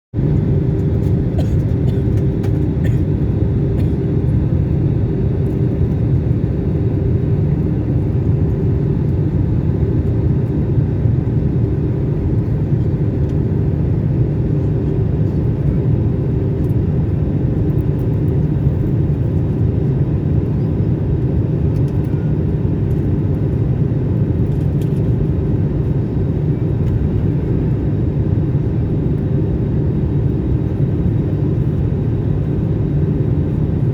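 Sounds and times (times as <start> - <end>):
airliner engines rumbling: 0.2 - 33.9.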